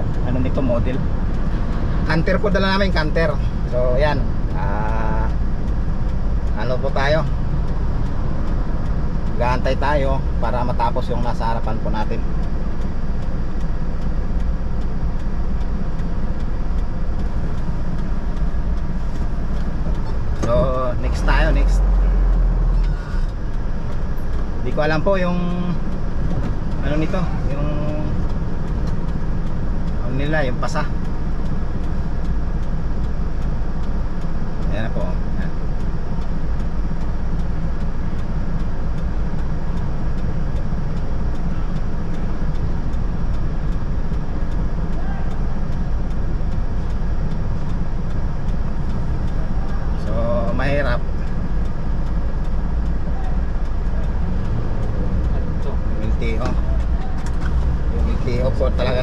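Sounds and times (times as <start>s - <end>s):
diesel engine idling: 0.0s - 59.0s
faint regular ticking: 0.0s - 59.0s.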